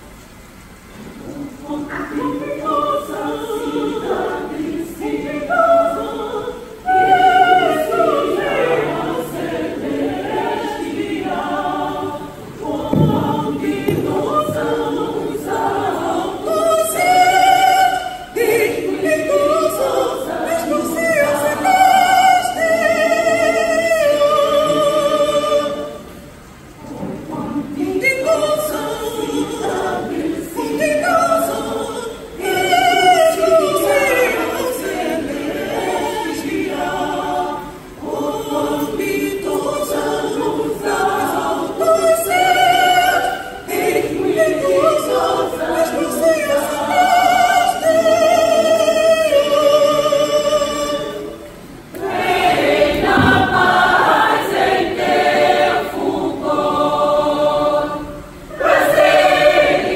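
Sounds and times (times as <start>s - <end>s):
choir singing a hymn: 0.9s - 59.9s.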